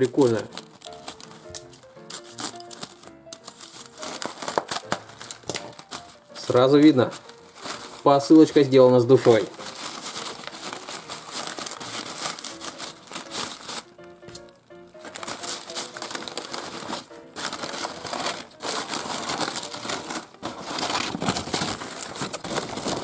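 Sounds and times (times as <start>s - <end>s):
crepe paper crumpling: 0.0s - 23.0s.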